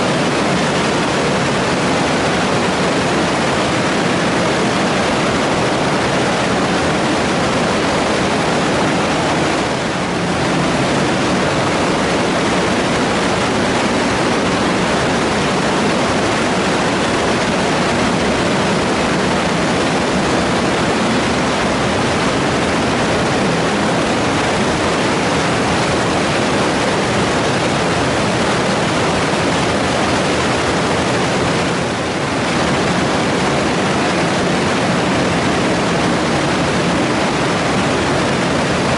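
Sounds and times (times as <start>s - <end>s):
water rushing through channel: 0.0s - 38.9s.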